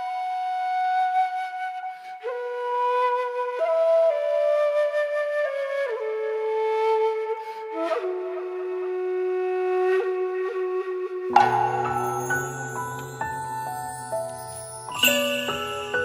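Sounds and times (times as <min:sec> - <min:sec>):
bamboo flute melody: 0:00.0 - 0:16.0.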